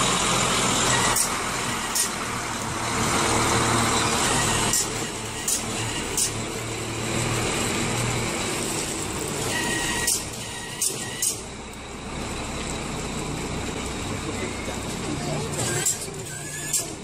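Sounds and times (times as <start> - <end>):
trailer rolling by: 0.0 - 17.0
truck diesel engine: 0.0 - 17.0.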